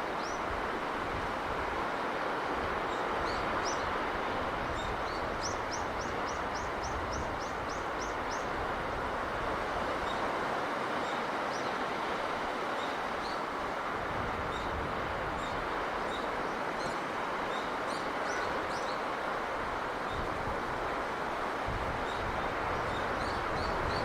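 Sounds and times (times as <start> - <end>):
sea breeze and surf: 0.0 - 24.0.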